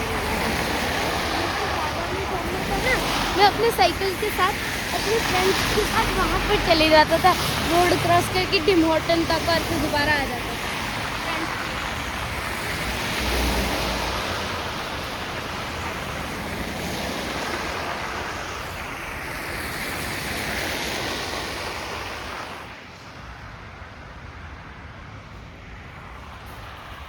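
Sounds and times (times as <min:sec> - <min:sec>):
tyres hissing on wet road: 0:00.0 - 0:27.0.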